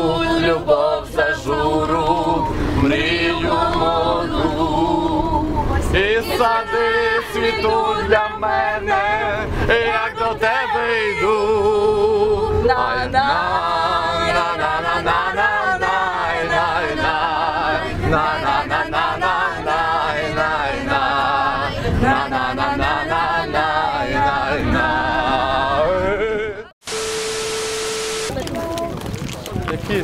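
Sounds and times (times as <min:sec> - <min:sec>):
group singing unaccompanied: 0:00.0 - 0:26.7.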